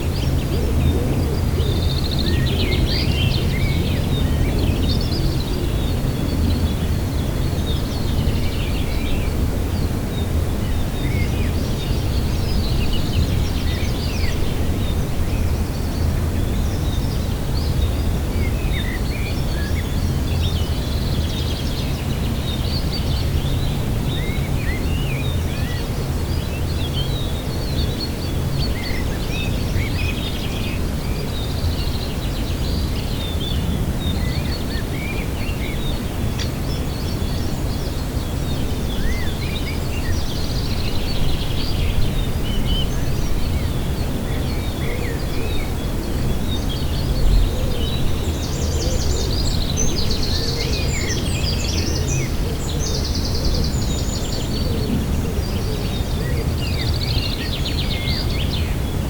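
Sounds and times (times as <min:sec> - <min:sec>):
low wind rumble: 0:00.0 - 0:59.0
small songbirds chirping: 0:00.0 - 0:59.0.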